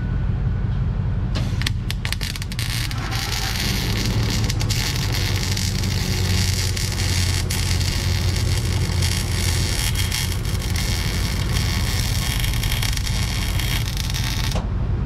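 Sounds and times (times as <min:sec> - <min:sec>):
arc welding crackling hiss: 0:01.6 - 0:14.6.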